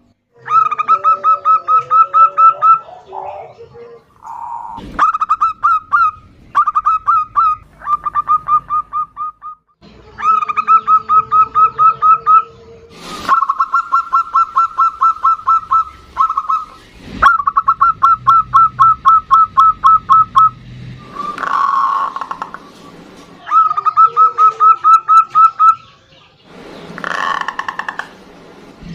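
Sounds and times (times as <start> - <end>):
doves cooing: 0.4 - 9.6, 10.2 - 28.9.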